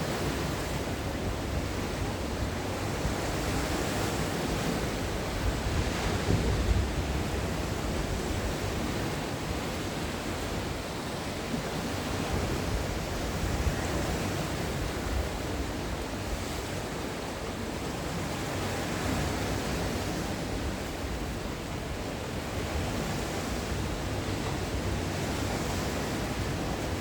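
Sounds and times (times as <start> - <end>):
sea waves washing on shore: 0.0 - 27.0.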